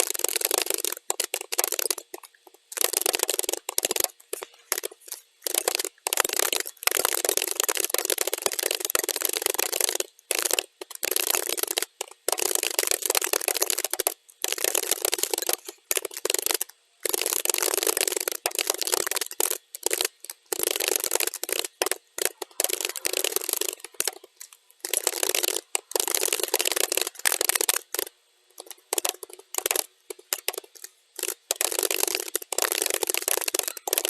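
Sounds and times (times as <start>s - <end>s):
rapid keyboard key clicks: 0.0s - 34.0s.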